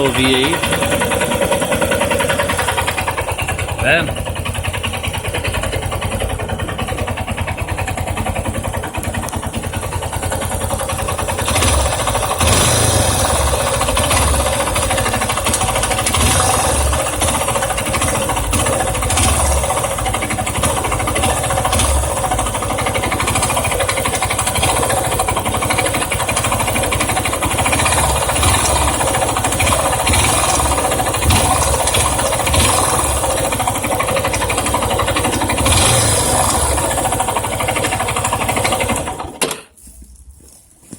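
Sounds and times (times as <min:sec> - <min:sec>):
motorcycle engine running: 0:00.0 - 0:39.6
mechanical engine noise: 0:00.0 - 0:39.7.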